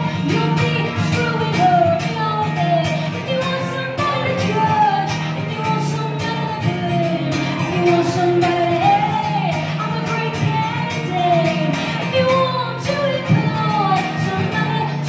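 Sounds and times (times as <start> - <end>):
strummed acoustic guitar: 0.0 - 15.0
woman singing: 0.0 - 15.0.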